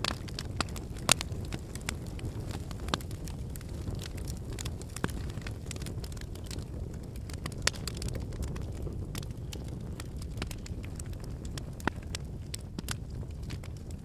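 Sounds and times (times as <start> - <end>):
fire crackling and popping: 0.0 - 14.0
flames rushing: 0.0 - 14.0.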